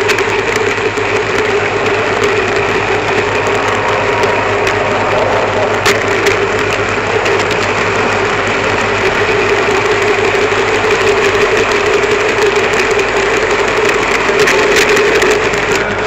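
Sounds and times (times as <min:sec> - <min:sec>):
model train motor whine: 0:00.0 - 0:16.0
small wheels clattering on rails: 0:00.0 - 0:16.0.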